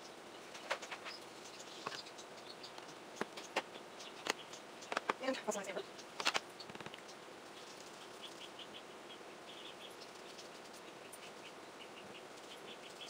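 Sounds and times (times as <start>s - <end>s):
faint high-pitched chirping: 0.0s - 13.0s
steady low hiss: 0.0s - 13.0s.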